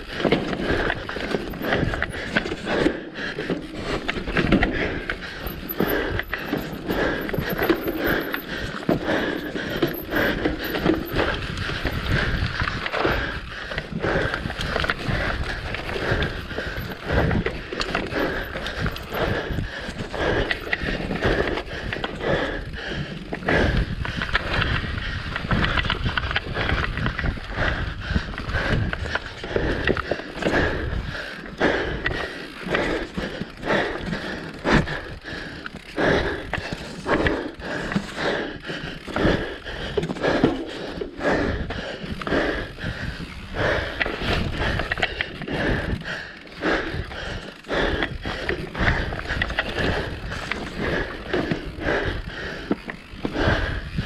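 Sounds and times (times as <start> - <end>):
bike frame rattling: 0.0 - 54.0
bike tyres rolling over dirt: 0.0 - 54.0.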